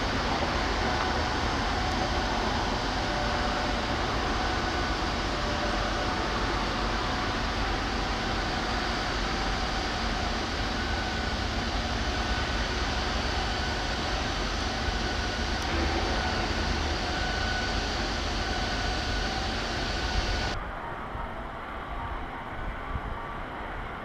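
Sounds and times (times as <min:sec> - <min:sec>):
mechanical rumble and hiss: 0:00.0 - 0:20.8
faint hum tones: 0:00.0 - 0:24.0.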